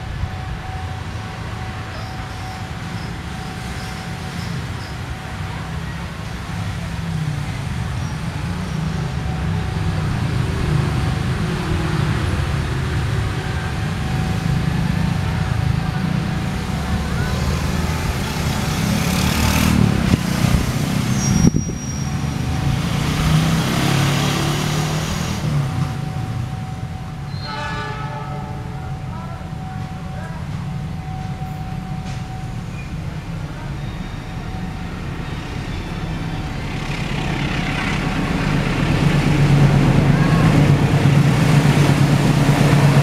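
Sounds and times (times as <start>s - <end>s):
locomotive engine rumble: 0.0s - 43.0s
road traffic noise: 0.0s - 43.0s.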